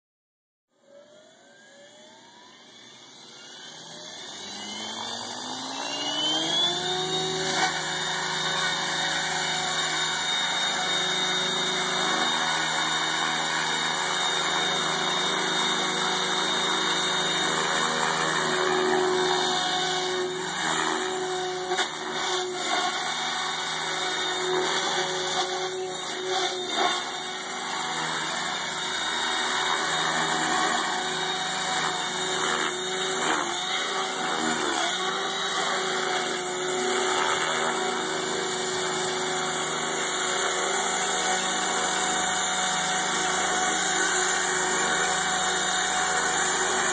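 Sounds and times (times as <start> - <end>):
electric motor and gear whine: 0.8 - 46.9
helicopter rotor blade noise: 2.3 - 46.9.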